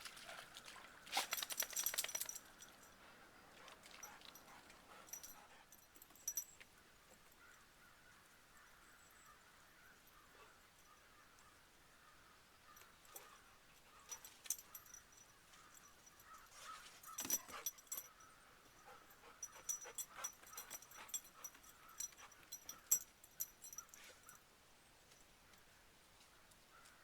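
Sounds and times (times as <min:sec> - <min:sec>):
small metallic jingles: 0:00.0 - 0:25.7.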